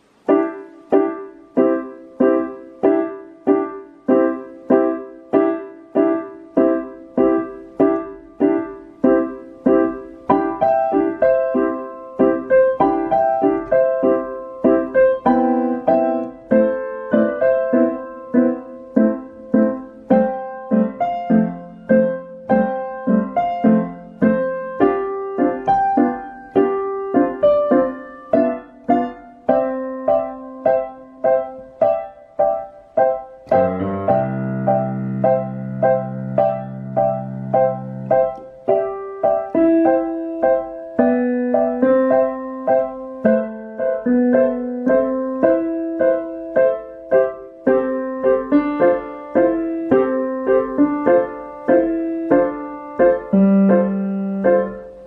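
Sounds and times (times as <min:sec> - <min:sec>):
digital piano playing: 0:00.0 - 0:55.0.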